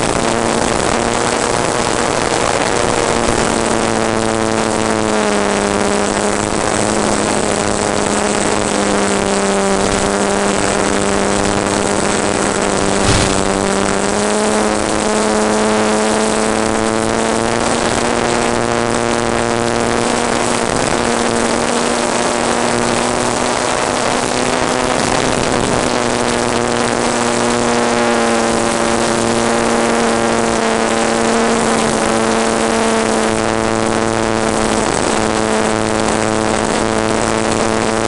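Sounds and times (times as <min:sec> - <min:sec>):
model airplane motor droning: 0:00.0 - 0:38.0.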